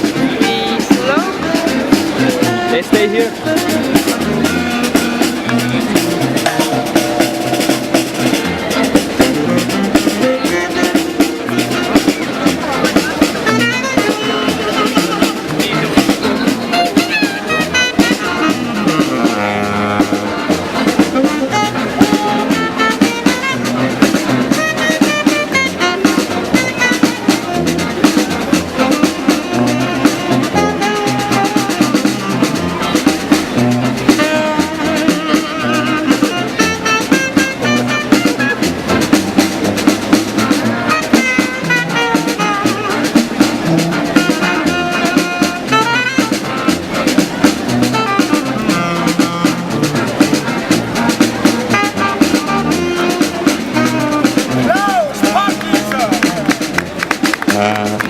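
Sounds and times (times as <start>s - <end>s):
drums keeping a steady beat: 0.0s - 58.0s
street band playing funk: 0.0s - 58.0s.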